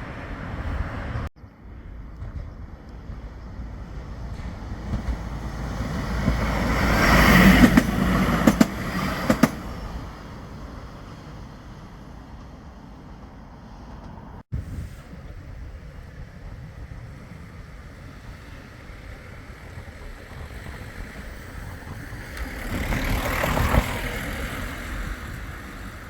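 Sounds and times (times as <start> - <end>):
tram passing by: 0.0 - 26.0.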